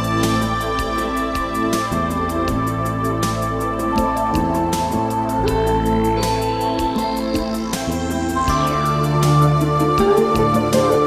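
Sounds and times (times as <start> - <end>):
music with held chords and beat: 0.0 - 11.0.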